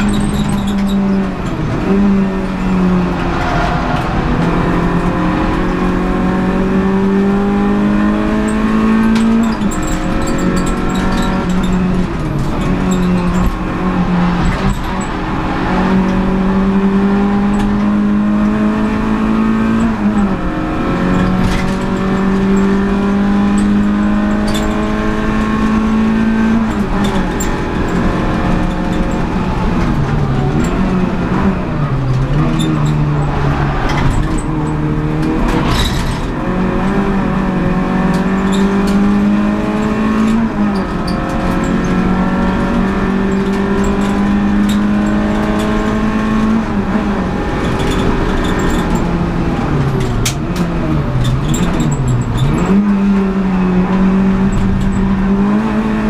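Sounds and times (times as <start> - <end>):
car engine at high revs: 0.0 - 56.0.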